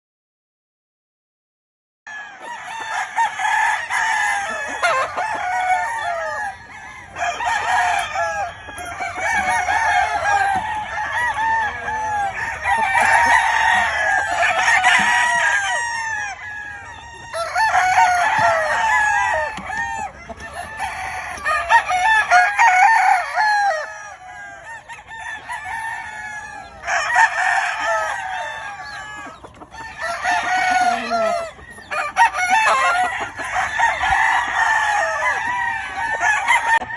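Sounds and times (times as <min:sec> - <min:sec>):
chickens clucking: 0:02.1 - 0:36.9
roosters crowing: 0:02.1 - 0:36.9.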